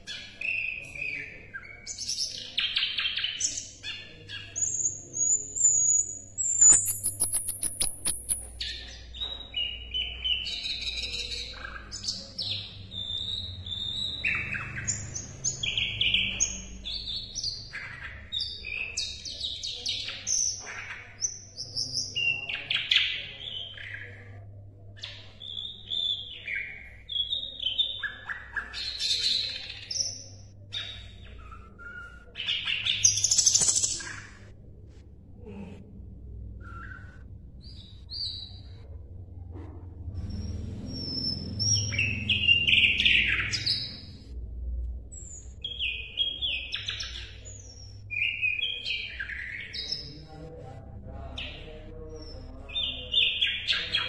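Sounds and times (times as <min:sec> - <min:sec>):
songbird singing trills and whistles: 0:00.0 - 0:24.2, 0:25.0 - 0:34.4, 0:36.6 - 0:38.8, 0:40.2 - 0:44.2, 0:45.2 - 0:50.2, 0:51.4 - 0:54.0
faint low hum: 0:00.0 - 0:54.0.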